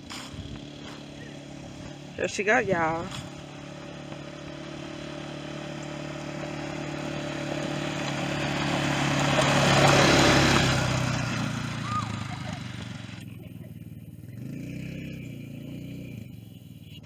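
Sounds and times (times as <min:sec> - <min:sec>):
quad bike engine passing: 0:00.0 - 0:17.0.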